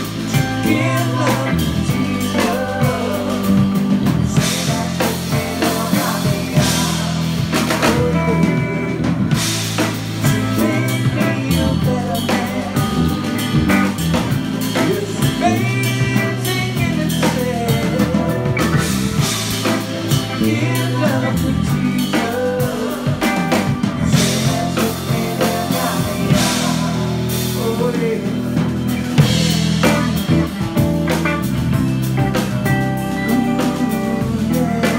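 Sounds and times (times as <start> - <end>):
drum kit: 0.0 - 34.9
guitars: 0.0 - 34.9
keyboard: 0.0 - 34.9.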